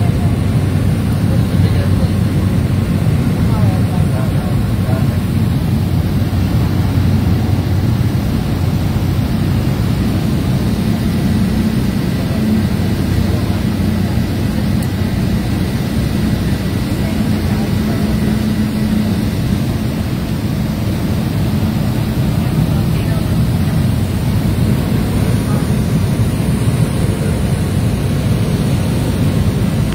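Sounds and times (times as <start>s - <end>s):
small plane engine drone in cabin: 0.0s - 29.9s.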